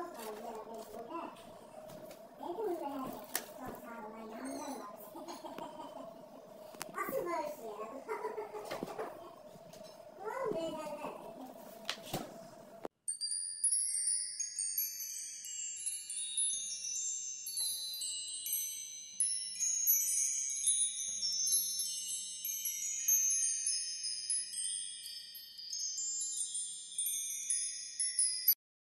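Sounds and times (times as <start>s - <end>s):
tinkling chime tones: 0.0s - 11.8s, 12.4s - 28.6s.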